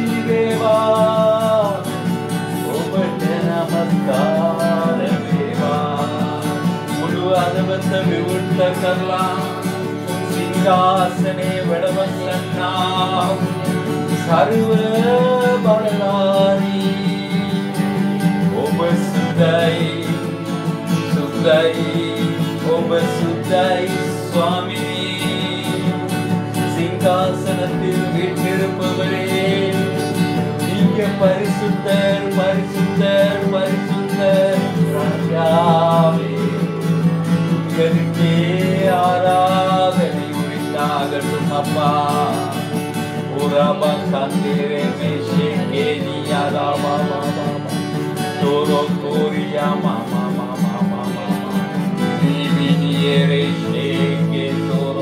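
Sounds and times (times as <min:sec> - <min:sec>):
guitar accompaniment: 0:00.0 - 0:55.0
person singing worship song: 0:00.0 - 0:55.0.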